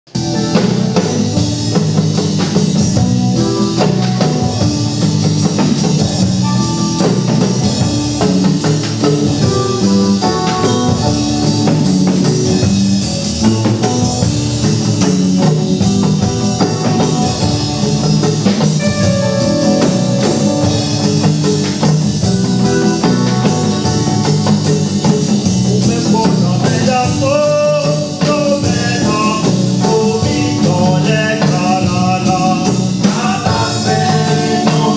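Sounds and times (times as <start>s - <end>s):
band music with drums and guitar: 0.1s - 34.9s.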